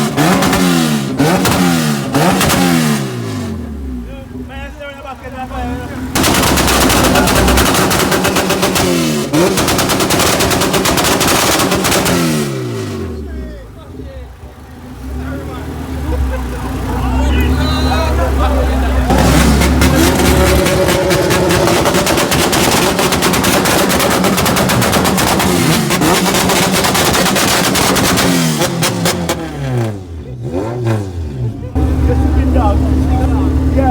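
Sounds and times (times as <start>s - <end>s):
engine revving high: 0.0s - 4.0s, 5.6s - 13.4s, 14.9s - 33.9s
exhaust crackling: 0.0s - 33.9s.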